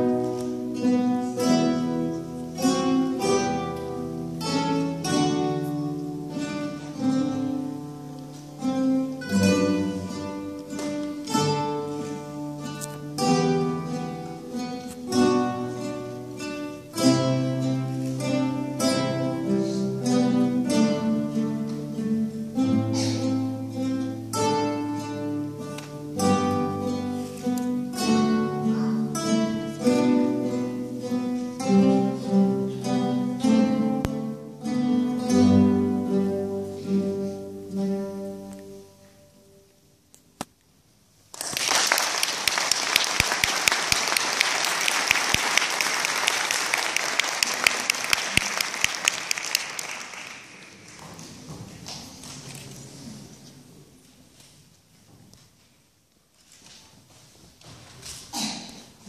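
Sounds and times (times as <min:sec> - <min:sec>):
acoustic guitar ensemble: 0:00.0 - 0:59.0.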